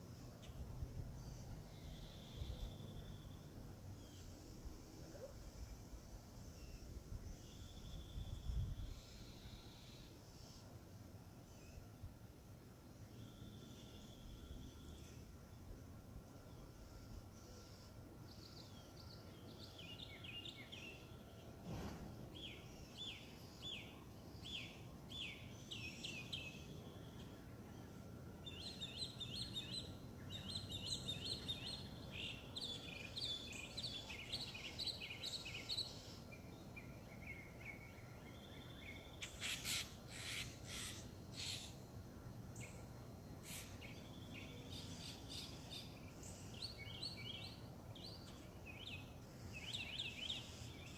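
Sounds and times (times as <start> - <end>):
low background noise: 0.0 - 50.9
songbirds singing: 0.0 - 50.9.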